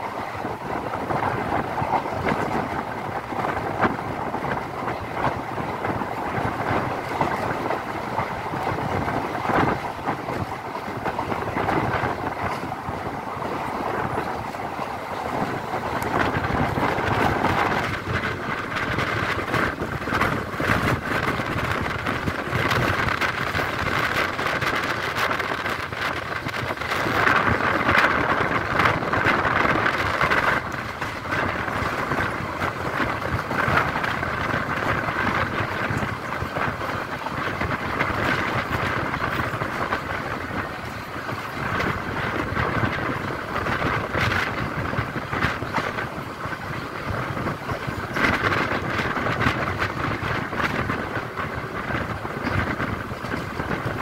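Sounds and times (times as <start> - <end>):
train running noise: 0.0 - 54.0
wind on microphone: 0.0 - 54.0.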